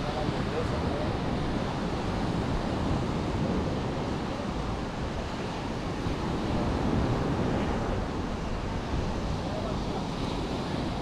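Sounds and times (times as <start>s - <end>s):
sea surf washing onto beach: 0.0s - 11.0s
wind buffeting microphone: 0.0s - 11.0s.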